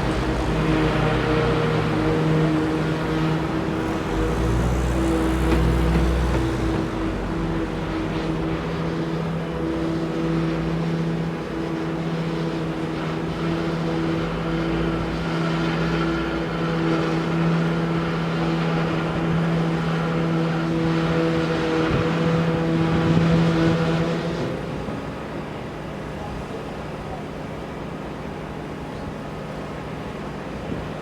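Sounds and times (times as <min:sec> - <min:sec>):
engine droning: 0:00.0 - 0:31.0.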